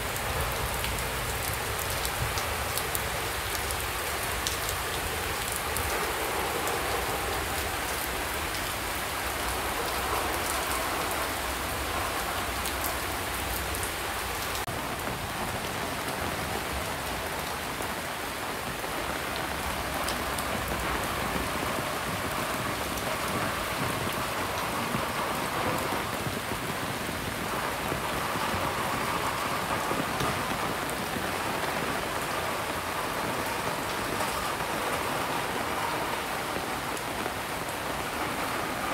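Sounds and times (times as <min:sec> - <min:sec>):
rain shower hissing: 0:00.0 - 0:38.9
sharp clicks of raindrops: 0:00.0 - 0:38.9.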